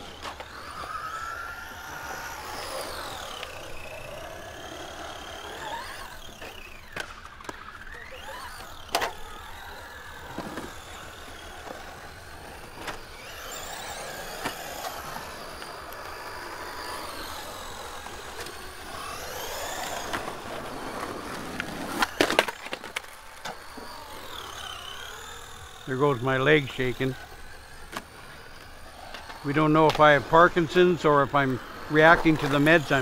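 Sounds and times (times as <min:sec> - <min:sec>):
electric toy car motor whining: 0:00.0 - 0:33.0.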